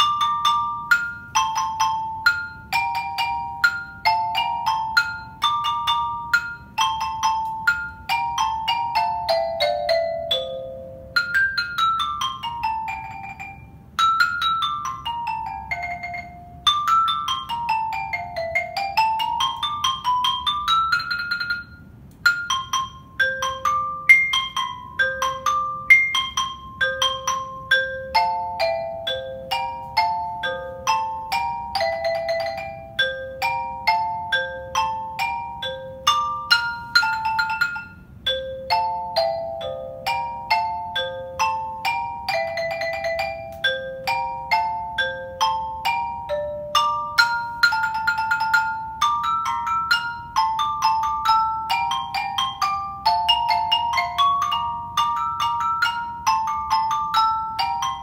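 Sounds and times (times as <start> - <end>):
xylophone waltz melody: 0.0 - 58.0.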